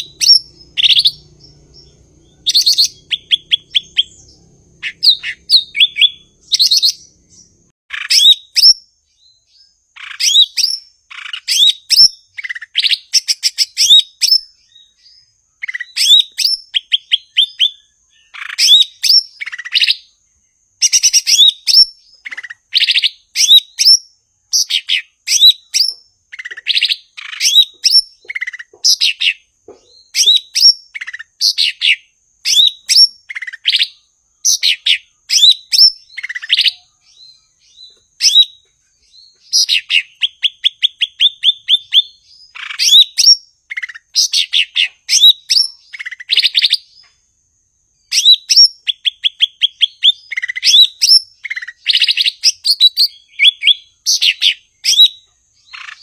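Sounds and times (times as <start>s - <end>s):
bird chirping and whistling: 0.0s - 8.8s, 10.0s - 20.1s, 20.8s - 29.4s, 30.0s - 47.1s, 48.1s - 56.0s.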